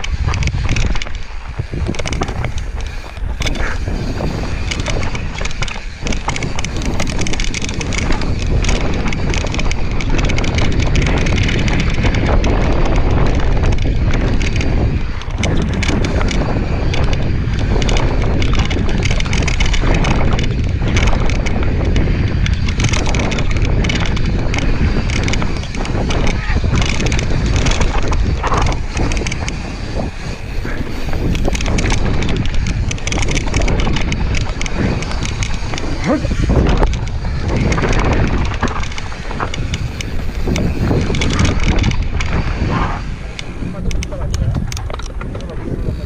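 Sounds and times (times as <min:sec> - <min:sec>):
bike rattling on dirt trail: 0:00.0 - 0:46.0
wind buffeting microphone: 0:00.0 - 0:46.0.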